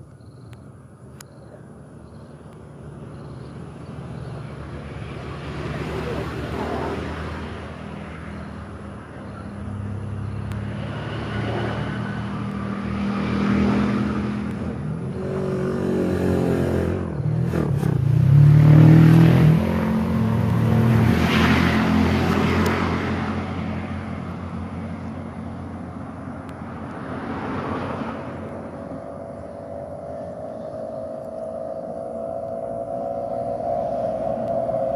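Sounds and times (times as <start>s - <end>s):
vehicle engines passing: 0.0s - 34.9s.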